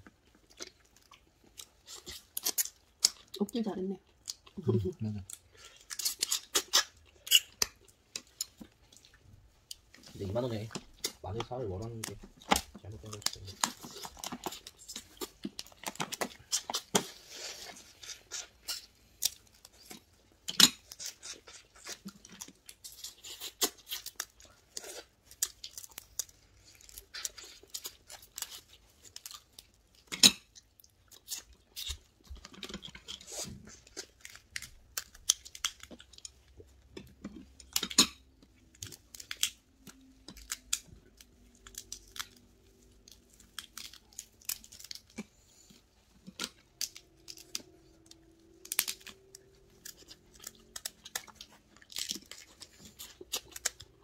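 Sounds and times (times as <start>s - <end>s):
chewing: 0.0s - 54.0s
crab shells cracking: 0.3s - 3.4s, 5.2s - 8.9s, 10.6s - 54.0s.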